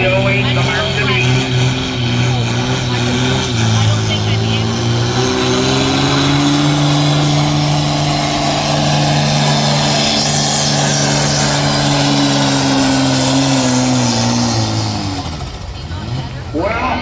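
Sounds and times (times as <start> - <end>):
engine at high revs under load: 0.0 - 17.0.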